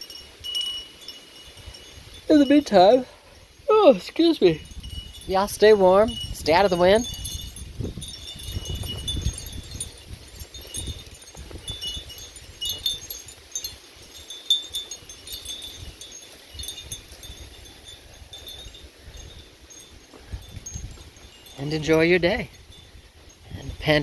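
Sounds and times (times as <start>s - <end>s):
metal wind chimes ringing: 0.0s - 24.0s
wind rumble on microphone: 0.0s - 24.0s.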